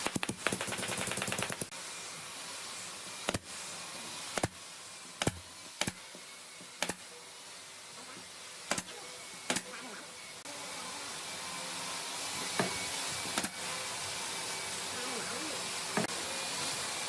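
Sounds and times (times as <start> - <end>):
steady hiss: 0.1 - 17.0.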